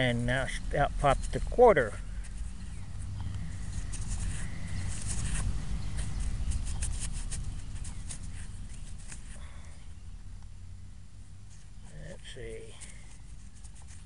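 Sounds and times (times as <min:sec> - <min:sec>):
dirt and grass crackling: 0:00.0 - 0:10.6, 0:11.4 - 0:14.0.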